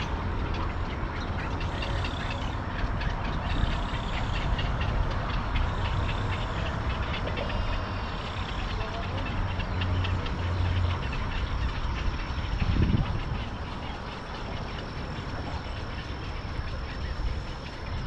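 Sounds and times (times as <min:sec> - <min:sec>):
herons croaking and squawking: 0:00.0 - 0:18.0.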